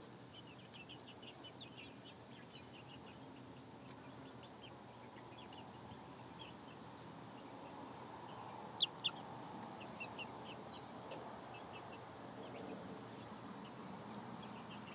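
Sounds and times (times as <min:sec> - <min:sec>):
chicks peeping and chirping: 0:00.0 - 0:14.9.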